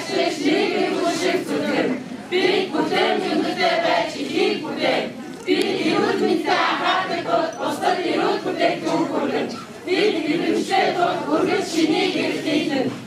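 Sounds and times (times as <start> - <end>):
women's voices chanting in unison: 0.0 - 13.0.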